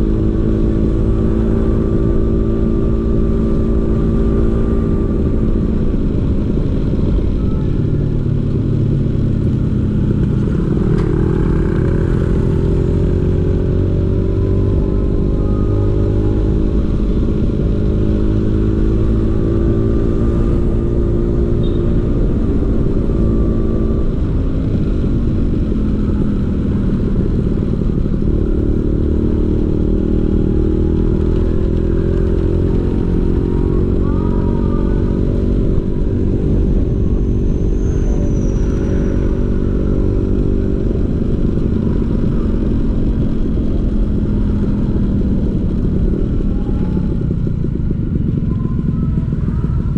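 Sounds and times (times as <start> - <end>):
scooter engine running: 0.0 - 49.9.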